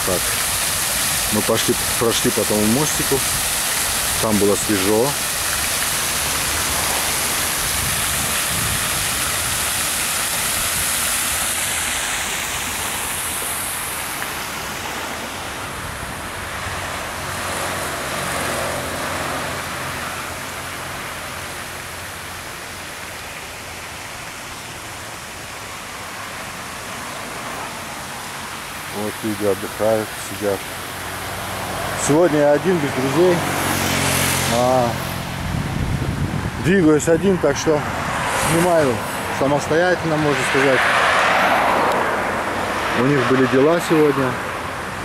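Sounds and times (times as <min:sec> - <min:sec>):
fountain water splashing: 0:00.0 - 0:45.0
road traffic noise: 0:00.0 - 0:45.0
vehicle passing: 0:01.4 - 0:22.4, 0:26.6 - 0:45.0.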